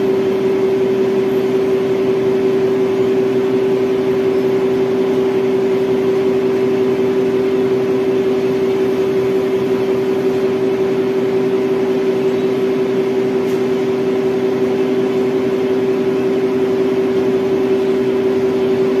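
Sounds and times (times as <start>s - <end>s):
electric motor hum and whine: 0.0s - 19.0s.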